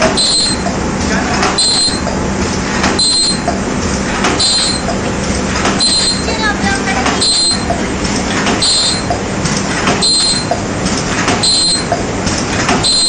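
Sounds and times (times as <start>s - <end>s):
machine running: 0.0s - 13.0s.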